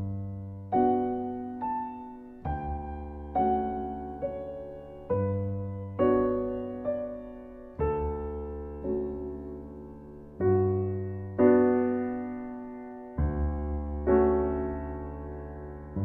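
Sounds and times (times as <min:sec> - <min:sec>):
slow soft piano music: 0:00.0 - 0:16.0.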